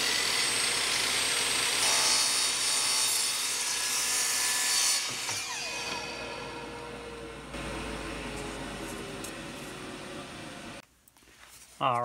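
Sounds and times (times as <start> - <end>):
miter saw cutting wood: 0.0 - 10.8.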